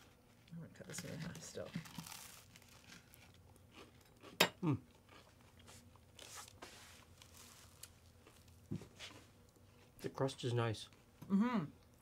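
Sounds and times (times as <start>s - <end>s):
people chewing bread: 0.0s - 12.0s.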